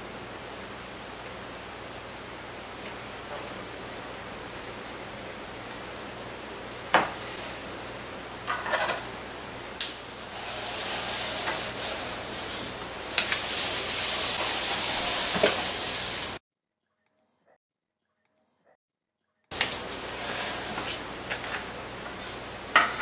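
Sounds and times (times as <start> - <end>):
steady hiss: 0.0 - 16.4, 19.5 - 23.0.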